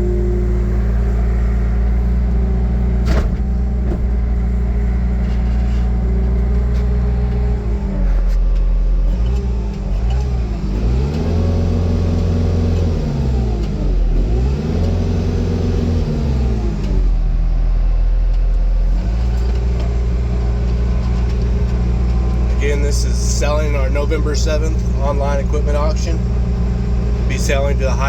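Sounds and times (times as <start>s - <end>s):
diesel skid steer engine running: 0.0s - 28.0s.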